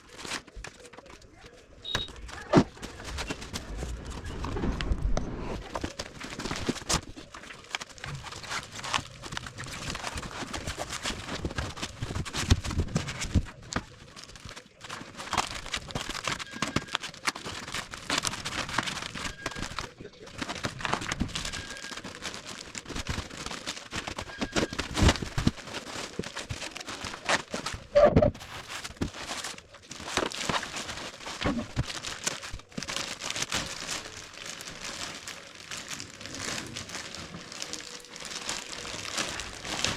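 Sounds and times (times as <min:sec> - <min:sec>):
plastic wrap and cardboard crinkling: 0:00.0 - 0:39.9.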